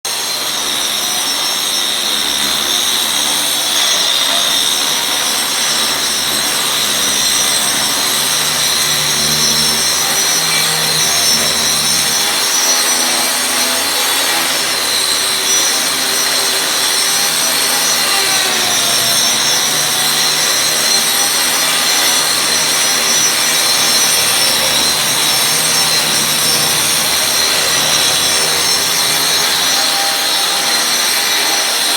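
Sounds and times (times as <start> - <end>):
concrete grinder grinding: 0.1 - 31.9.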